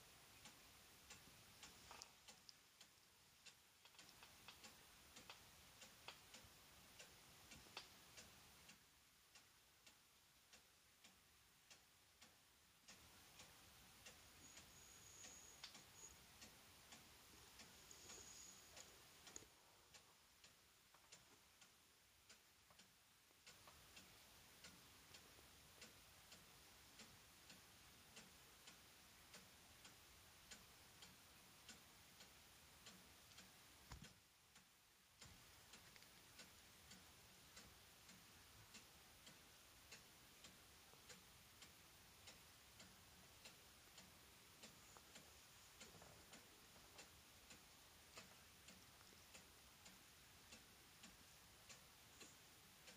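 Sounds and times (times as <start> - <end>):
faint regular ticking: 0.0 - 52.9.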